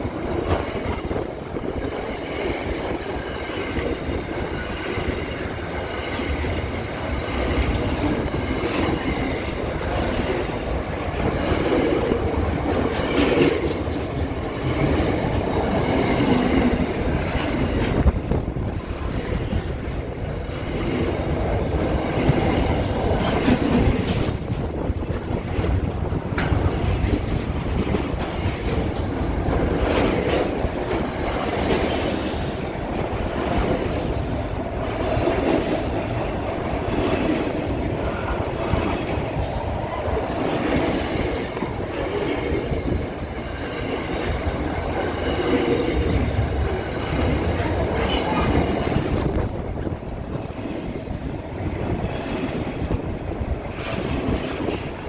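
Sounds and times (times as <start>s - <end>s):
steel wheels rumbling on rails: 0.0s - 55.0s.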